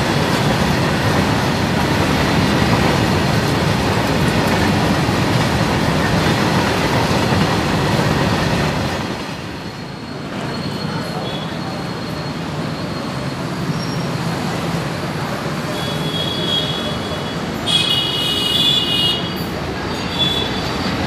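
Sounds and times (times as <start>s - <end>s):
freight wagons rolling on rails: 0.0s - 17.5s, 19.2s - 21.0s.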